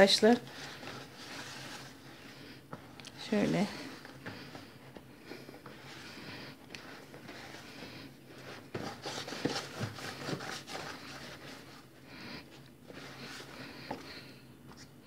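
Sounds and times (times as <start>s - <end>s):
hand kneading dough: 0.0s - 15.0s.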